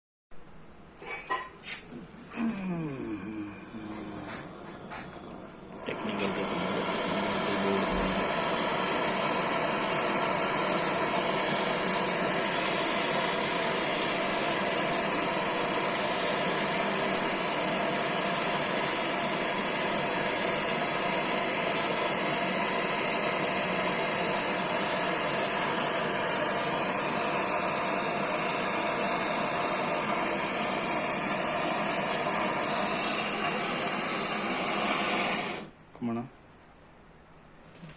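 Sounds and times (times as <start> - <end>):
welding torch flame hissing: 1.0 - 35.8.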